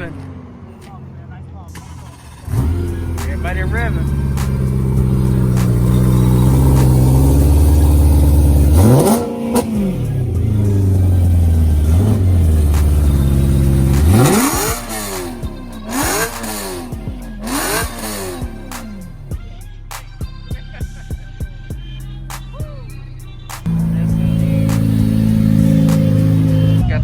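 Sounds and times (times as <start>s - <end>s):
car engines revving: 0.0s - 19.4s, 22.0s - 27.0s.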